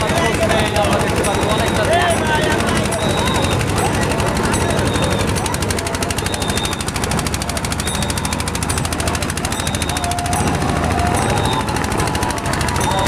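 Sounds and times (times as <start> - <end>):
faint voices: 0.0 - 13.0
small boat engine knocking: 0.0 - 13.0.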